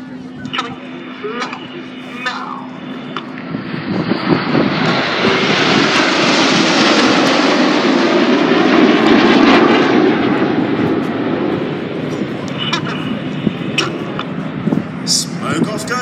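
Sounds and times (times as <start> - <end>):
jet engines rushing past: 0.0 - 16.0.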